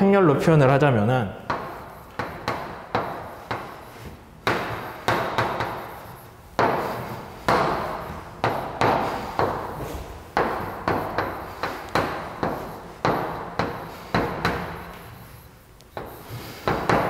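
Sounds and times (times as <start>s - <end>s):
chalk tapping on blackboard: 1.4s - 17.0s.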